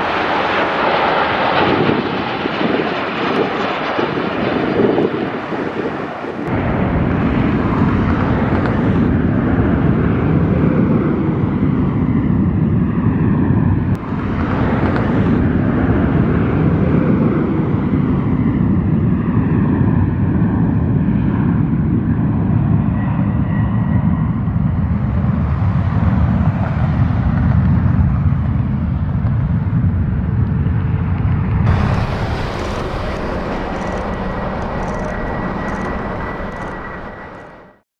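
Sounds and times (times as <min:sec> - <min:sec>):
jet engine rumble: 0:00.0 - 0:37.8.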